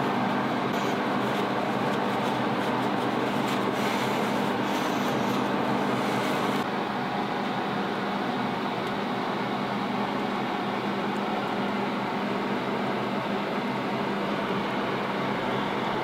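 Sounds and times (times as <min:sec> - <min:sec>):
machine drone with low hum: 0:00.0 - 0:16.0.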